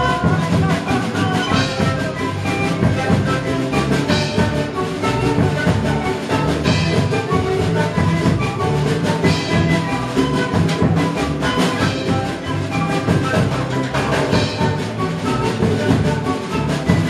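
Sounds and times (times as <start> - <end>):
drums and percussion beat: 0.0 - 17.0
held melodic notes: 0.0 - 17.0.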